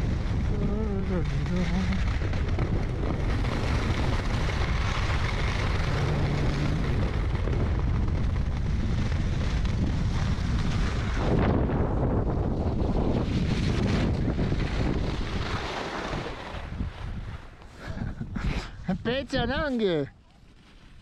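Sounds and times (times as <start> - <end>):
wind buffeting microphone: 0.0 - 19.7.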